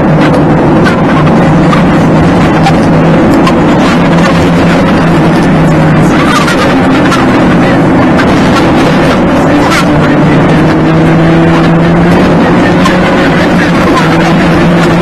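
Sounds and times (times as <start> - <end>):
car engine hum and road noise: 0.0 - 15.0.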